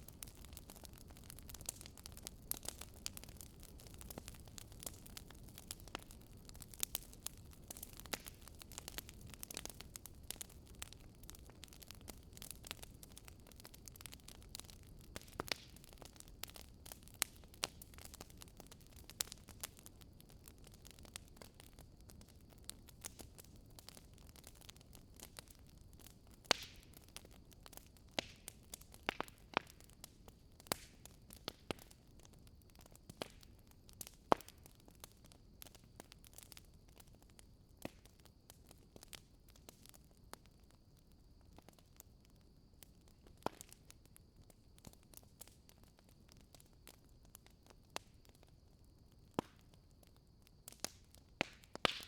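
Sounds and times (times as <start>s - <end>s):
firewood crackling: 0.0s - 52.0s.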